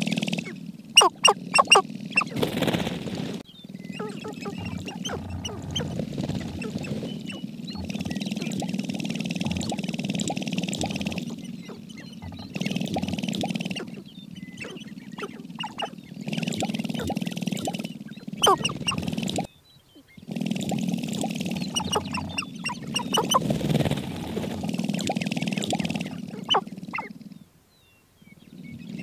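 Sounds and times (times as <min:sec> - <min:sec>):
grouse short calls: 0:00.0 - 0:02.6, 0:03.8 - 0:20.4, 0:21.2 - 0:27.4.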